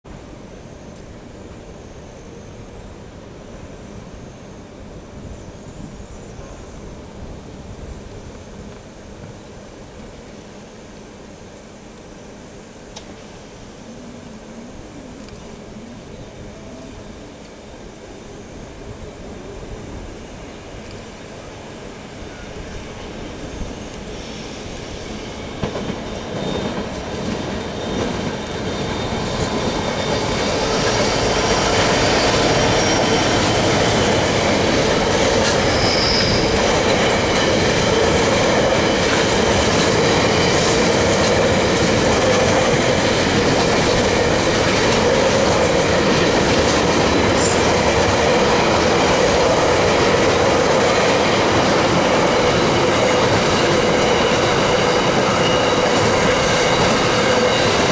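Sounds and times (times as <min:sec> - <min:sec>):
diesel locomotives approaching: 0:00.1 - 0:57.9
wagons rumbling on rails: 0:00.1 - 0:57.9.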